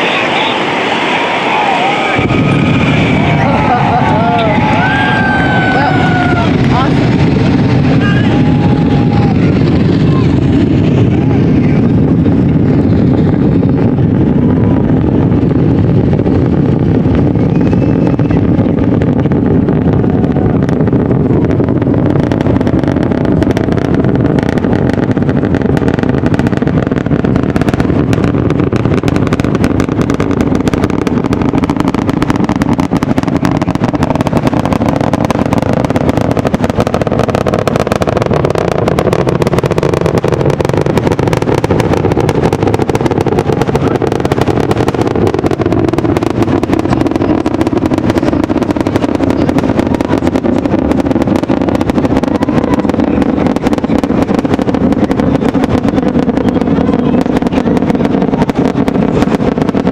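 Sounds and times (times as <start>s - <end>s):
distant rocket engines rumbling: 0.0s - 59.9s.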